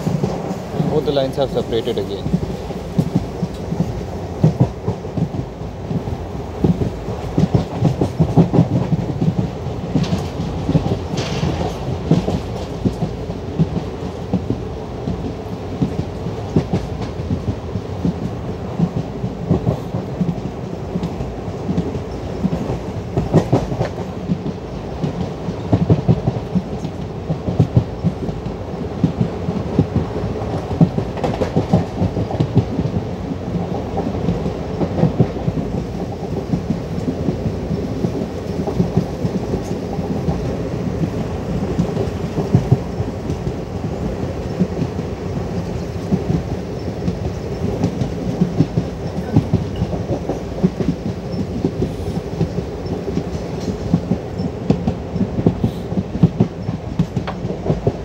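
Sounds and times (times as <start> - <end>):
train coaches rumbling: 0.0 - 58.0.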